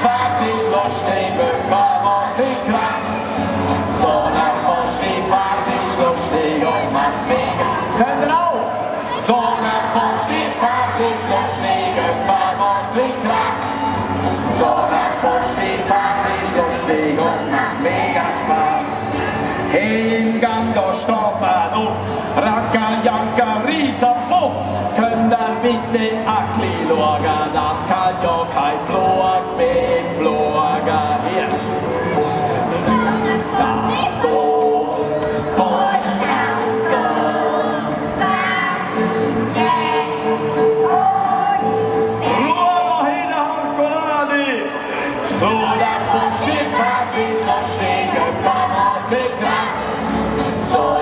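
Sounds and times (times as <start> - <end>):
children's choir singing: 0.0 - 44.0, 44.9 - 51.0.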